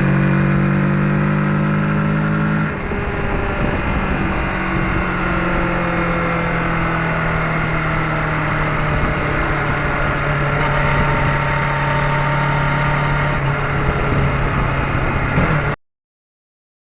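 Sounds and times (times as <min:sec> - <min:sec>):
motorcycle engine at speed: 0:00.0 - 0:15.8.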